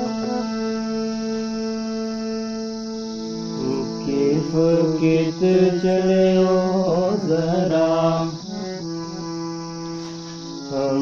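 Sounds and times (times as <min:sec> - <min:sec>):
held instrumental notes: 0:00.0 - 0:11.0
person singing wordless long notes: 0:00.0 - 0:11.0.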